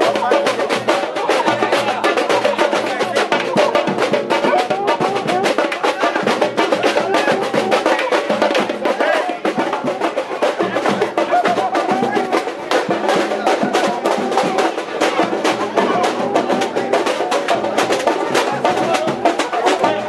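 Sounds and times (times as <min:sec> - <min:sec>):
fast samba drumming: 0:00.0 - 0:20.0.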